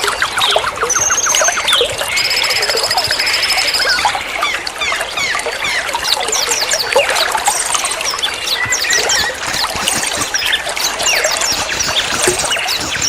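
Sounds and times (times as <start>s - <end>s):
running water: 0.0s - 13.0s
songbirds chirping and trilling: 0.0s - 13.0s.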